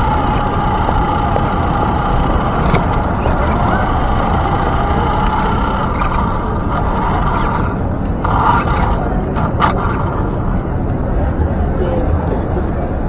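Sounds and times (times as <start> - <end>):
steady whine: 0.0 - 13.0
toy truck rumbling on pavement: 0.0 - 13.0.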